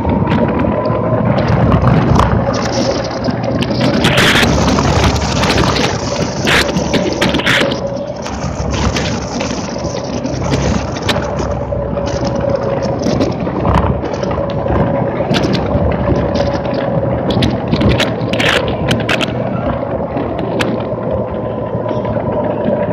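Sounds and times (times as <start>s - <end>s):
chassis rattles and knocks: 0.0s - 22.9s
faint wavering whine: 0.0s - 22.9s
tyre road and wind noise: 0.0s - 22.9s.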